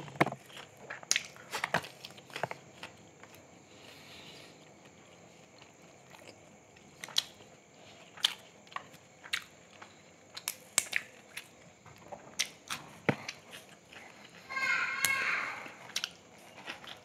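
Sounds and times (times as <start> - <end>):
chewing crunches and clicks: 0.4 - 3.4, 4.8 - 14.4, 15.8 - 17.0.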